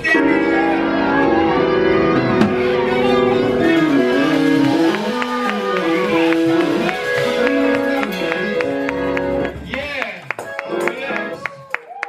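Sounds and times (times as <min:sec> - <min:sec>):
church band with guitar: 0:00.0 - 0:11.4.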